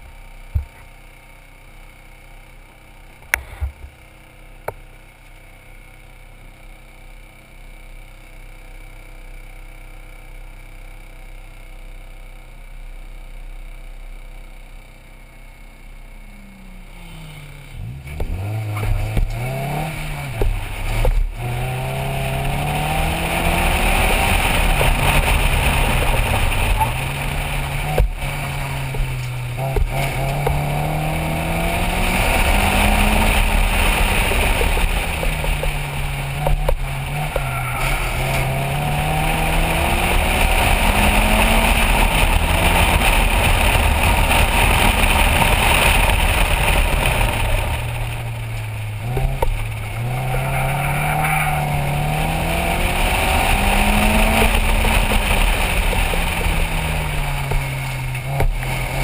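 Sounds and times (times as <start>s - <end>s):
race car engine: 0.0s - 59.0s.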